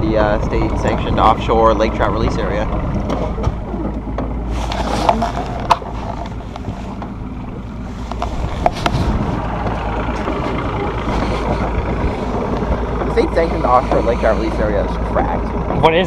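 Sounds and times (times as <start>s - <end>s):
outboard motor running: 0.0s - 16.0s
water noise: 0.0s - 16.0s
wind: 0.0s - 16.0s.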